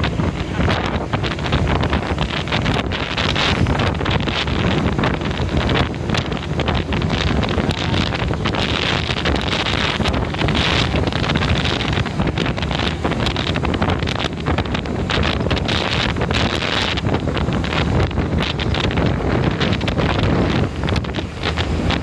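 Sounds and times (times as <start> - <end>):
crackles: 0.0 - 22.0
road and engine rumble: 0.0 - 22.0
wind buffeting microphone: 0.0 - 22.0.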